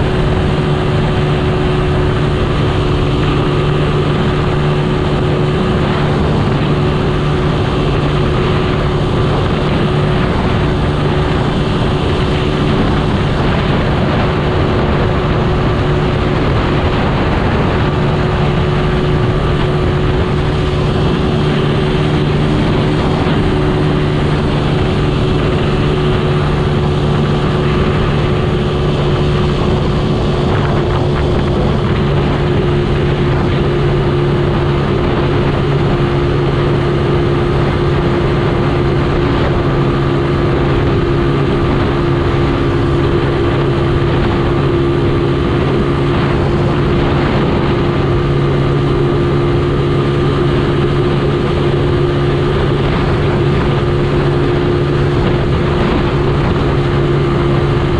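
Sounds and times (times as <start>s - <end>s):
motorcycle engine cruising: 0.0s - 57.9s
wind and road noise: 0.0s - 57.9s.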